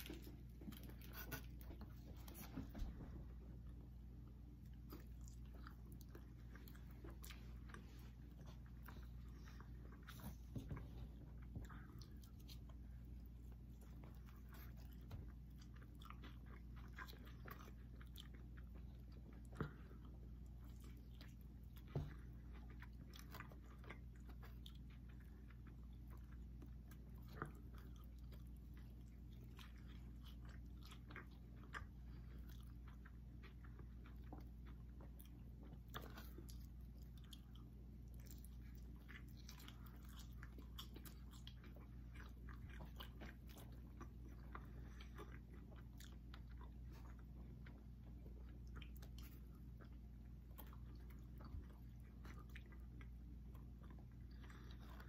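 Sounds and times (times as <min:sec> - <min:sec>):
low steady hum: 0:00.0 - 0:55.0
people chewing food: 0:00.0 - 0:55.0.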